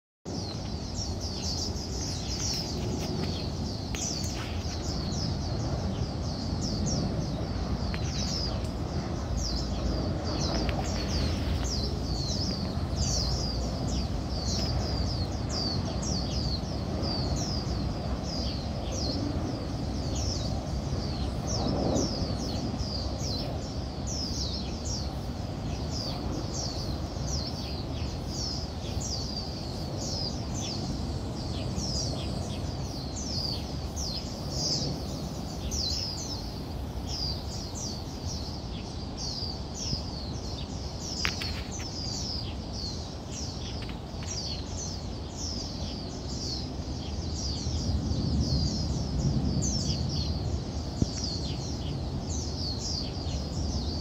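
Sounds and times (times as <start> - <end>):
birds chirping: 0.3 - 54.0.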